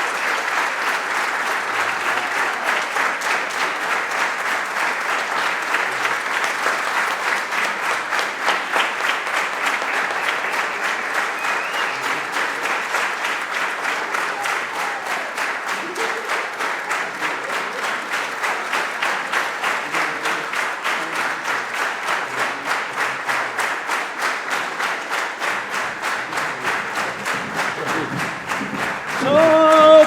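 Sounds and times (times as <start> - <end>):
audience rhythmic clapping: 0.0 - 30.0.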